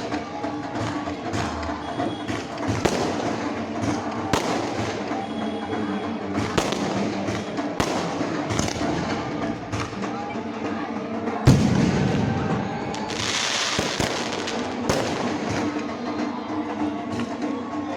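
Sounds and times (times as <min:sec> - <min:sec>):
fireworks banging: 0:00.0 - 0:10.1, 0:11.4 - 0:16.1
steady background din: 0:00.0 - 0:17.9.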